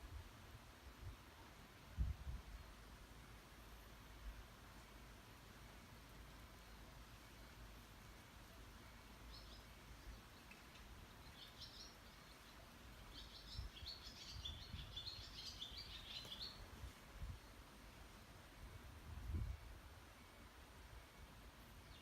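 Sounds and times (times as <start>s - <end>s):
faint bird chirping: 2.0s - 17.9s, 19.3s - 22.0s.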